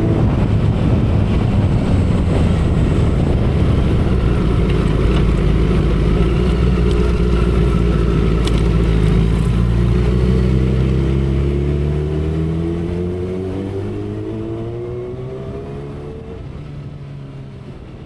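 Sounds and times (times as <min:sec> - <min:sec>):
motorcycle engine at speed: 0:00.0 - 0:18.0
wind noise: 0:00.0 - 0:18.0.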